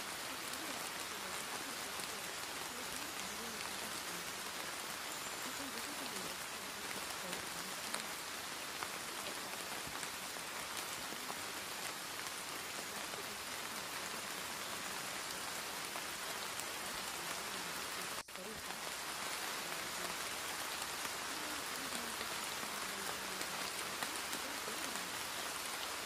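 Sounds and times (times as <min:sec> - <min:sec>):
rain hiss: 0:00.0 - 0:26.0.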